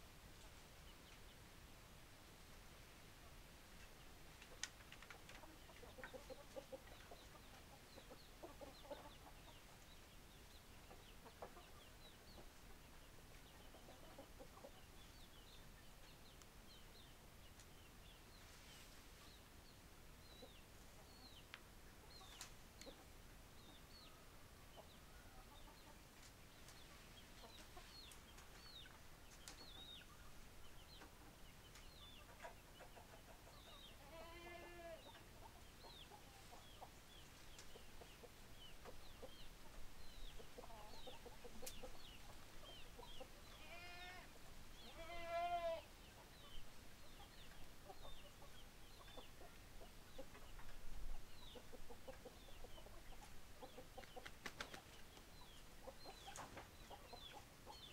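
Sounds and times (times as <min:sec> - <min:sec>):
hens clucking softly: 0:03.2 - 0:16.4, 0:20.2 - 0:44.2, 0:44.8 - 0:57.9
chicks peeping: 0:03.8 - 0:45.1, 0:45.8 - 0:57.9.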